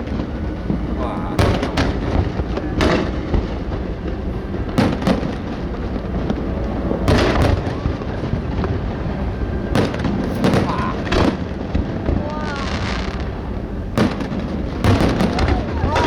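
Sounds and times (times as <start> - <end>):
fireworks booming: 0.0 - 16.0
fireworks crackling: 0.0 - 16.0.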